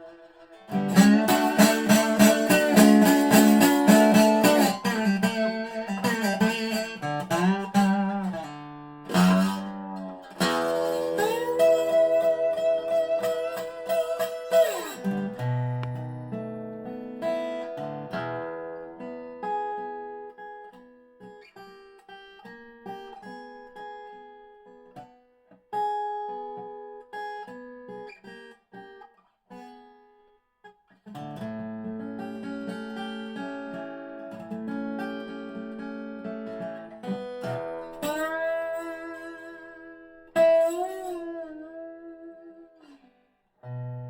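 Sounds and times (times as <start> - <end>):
slide resonator guitar: 0.0 - 30.0, 31.0 - 44.0.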